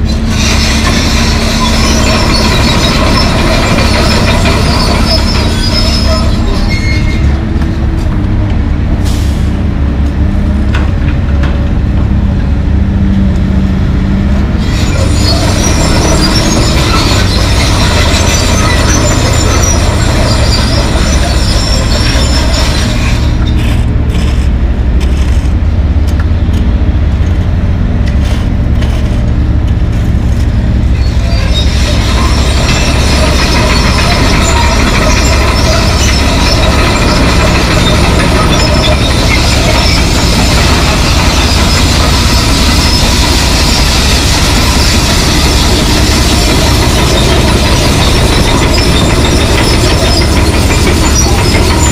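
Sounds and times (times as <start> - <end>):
metallic squealing and clatter: 0.0 - 8.2, 14.4 - 51.9
excavator diesel engine drone: 0.0 - 51.9.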